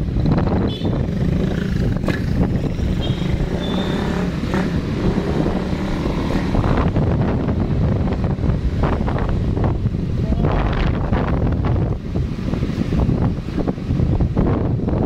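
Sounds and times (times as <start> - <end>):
vehicle rumble: 0.0 - 15.0
wind buffeting microphone: 0.0 - 15.0.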